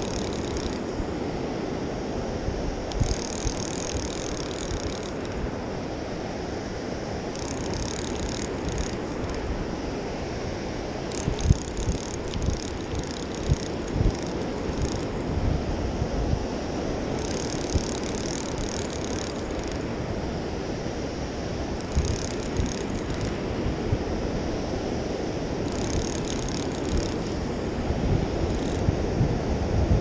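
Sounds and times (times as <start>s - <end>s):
fishing reel gears whirring: 0.0s - 1.3s, 2.8s - 15.7s, 16.5s - 23.9s, 24.6s - 29.2s
wind on microphone: 0.0s - 30.0s.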